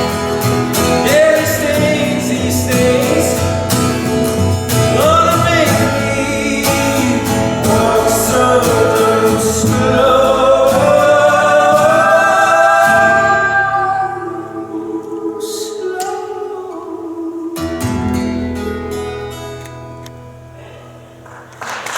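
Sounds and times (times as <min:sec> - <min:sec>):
live band with singing: 0:00.0 - 0:18.4.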